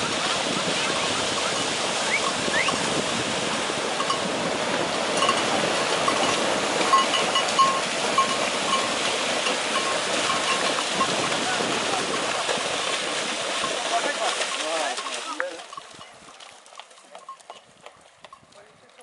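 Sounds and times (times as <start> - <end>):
hooves splashing in water: 0.0 - 19.0.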